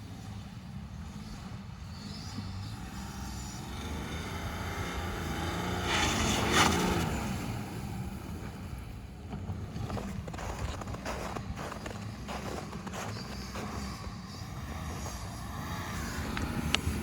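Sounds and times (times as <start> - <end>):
diesel engine revving: 1.0 - 17.0.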